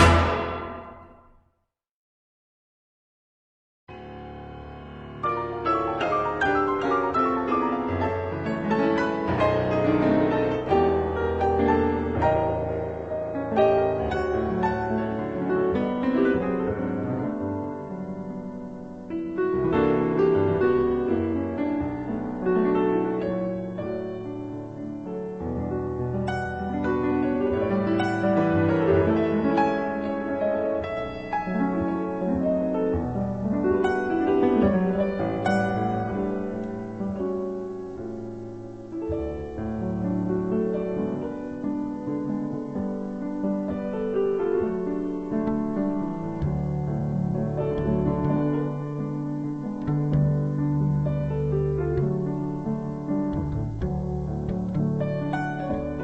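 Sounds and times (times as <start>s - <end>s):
slow gentle piano music: 3.9s - 56.0s.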